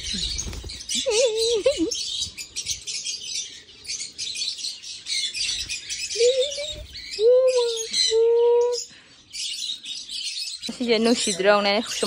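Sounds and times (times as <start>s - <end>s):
birds chirping chatter: 0.0s - 12.0s
long low bird calls: 0.0s - 12.0s.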